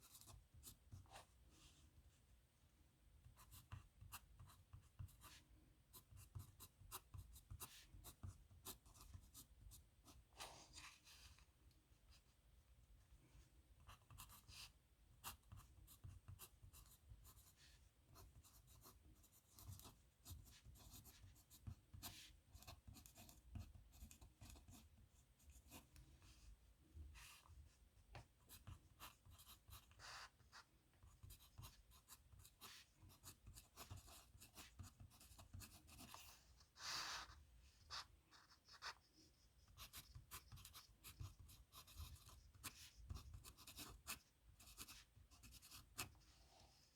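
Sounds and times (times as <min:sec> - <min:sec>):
pen scratching on paper: 0:03.3 - 0:11.4, 0:13.9 - 0:25.8, 0:28.4 - 0:46.2.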